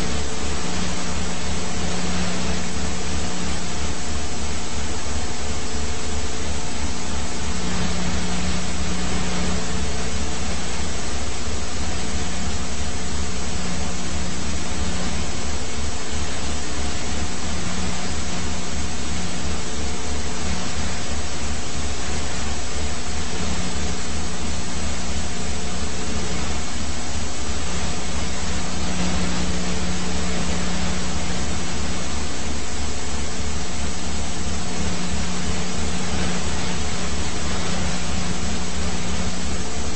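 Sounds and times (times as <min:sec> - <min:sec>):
constant hums: 0:00.0 - 0:39.9
helicopter rotor beat: 0:00.0 - 0:39.9.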